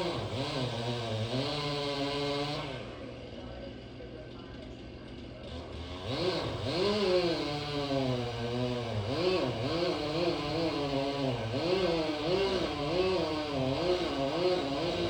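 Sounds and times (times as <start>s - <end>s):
chainsaw running: 0.0s - 15.0s.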